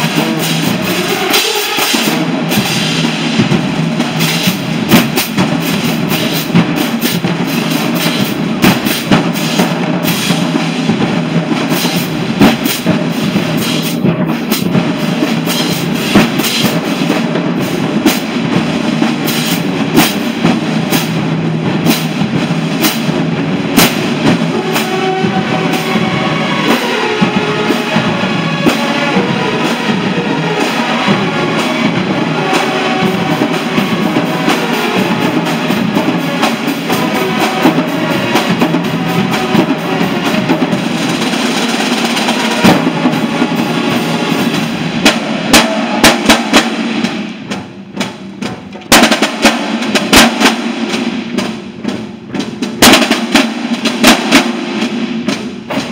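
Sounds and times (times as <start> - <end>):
drumline drums and cymbals: 0.0 - 55.9
marching band playing: 0.0 - 55.9.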